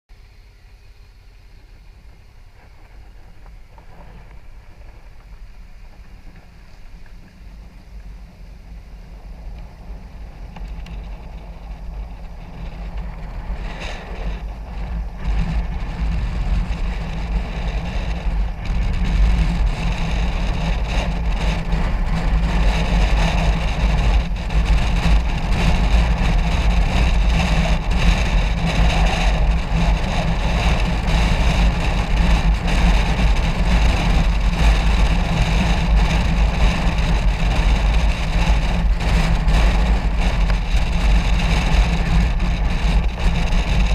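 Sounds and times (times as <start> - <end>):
wind rushing over camera: 1.5 - 43.9.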